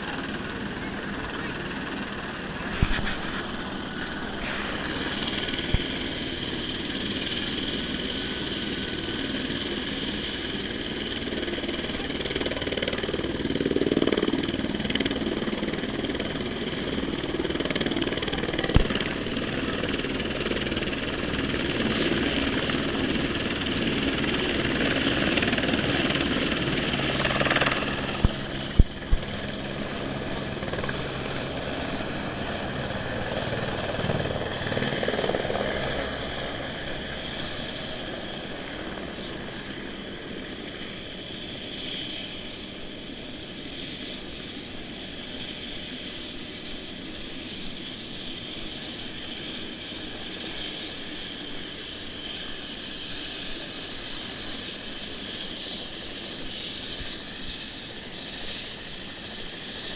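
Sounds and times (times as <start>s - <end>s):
helicopter rotor and turbine noise: 0.0s - 59.9s.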